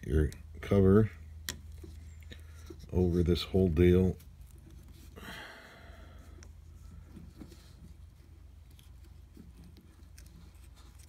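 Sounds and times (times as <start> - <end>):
low steady hum: 0.0 - 11.0
handling rustles and light clicks: 0.1 - 5.2, 6.3 - 11.0.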